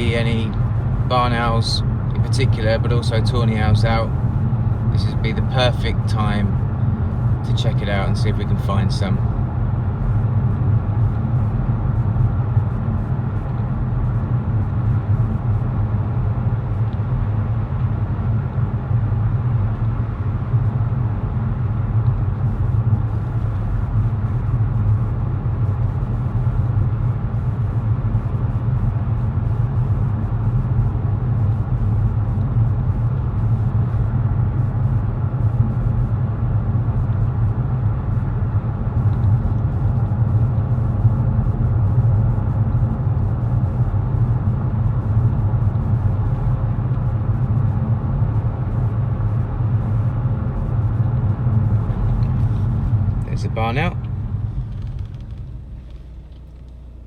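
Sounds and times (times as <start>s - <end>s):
car engine rumble inside cabin: 0.0s - 57.0s.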